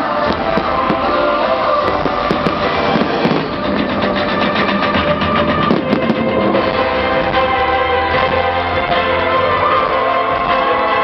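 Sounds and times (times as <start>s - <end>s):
loud music with drums and chords: 0.0s - 11.0s.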